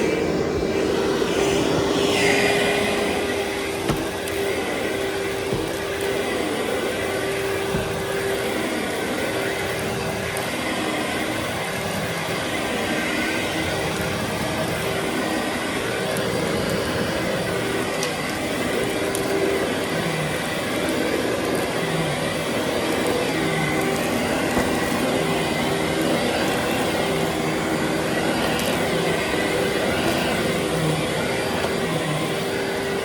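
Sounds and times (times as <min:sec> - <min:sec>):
vacuum cleaner on carpet: 0:00.0 - 0:33.0.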